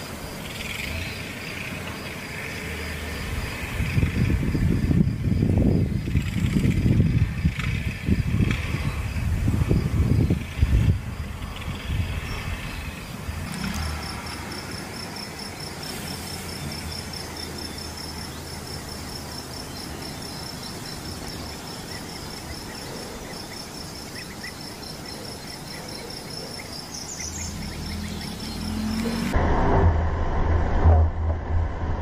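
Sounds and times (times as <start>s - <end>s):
insects trilling: 0.0s - 29.4s
distant engine hum: 0.0s - 32.0s.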